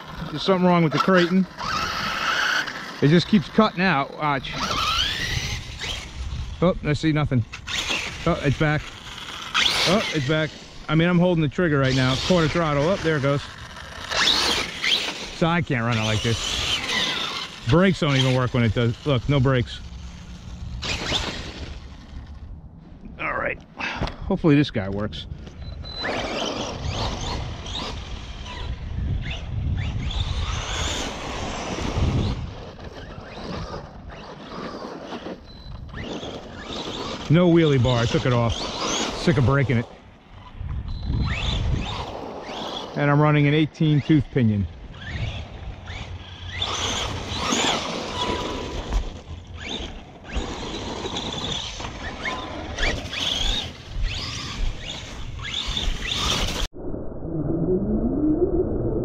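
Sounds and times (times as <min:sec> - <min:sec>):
electric motor whining: 0:00.0 - 0:03.7, 0:04.4 - 0:22.5, 0:25.4 - 0:56.7
tyre noise on asphalt: 0:00.0 - 0:24.2, 0:24.9 - 0:43.9, 0:44.8 - 0:56.7.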